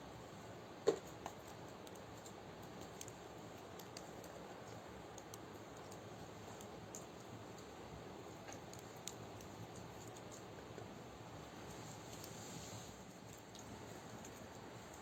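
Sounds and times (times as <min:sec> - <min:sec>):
steady hiss: 0:00.0 - 0:15.0
faint clicks and crackles: 0:00.9 - 0:15.0.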